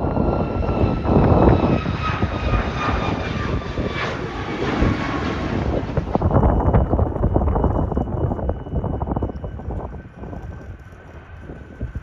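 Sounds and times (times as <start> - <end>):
airliner engines running: 0.0 - 12.0.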